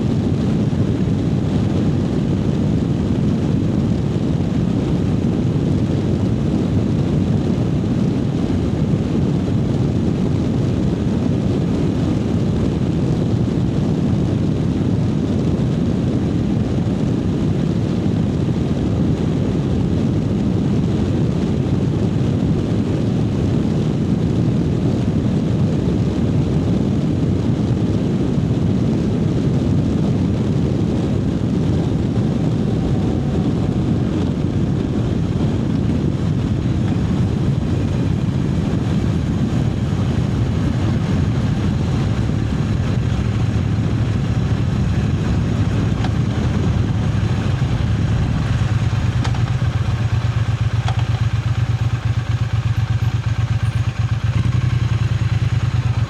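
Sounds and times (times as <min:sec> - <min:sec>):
wind rush on microphone: 0:00.0 - 0:56.0
motorcycle engine cruising: 0:00.1 - 0:56.0.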